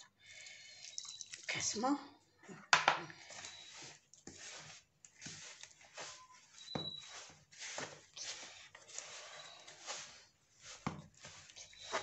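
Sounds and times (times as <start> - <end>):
hands mixing dough in a bowl: 0.0 - 12.0.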